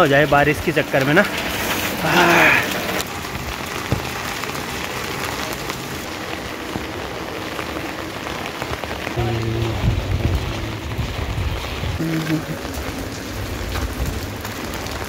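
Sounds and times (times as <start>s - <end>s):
heavy rain on street: 0.0s - 15.0s
raindrops ticking on umbrella: 2.4s - 15.0s.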